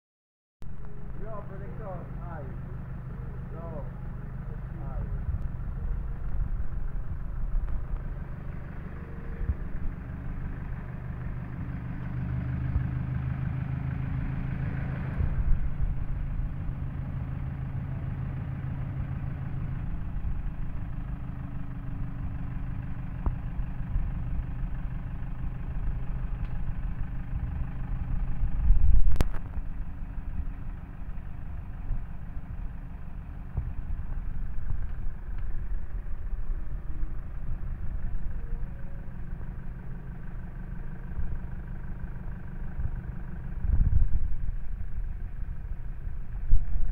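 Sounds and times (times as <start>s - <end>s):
van engine idling: 0.6s - 46.9s.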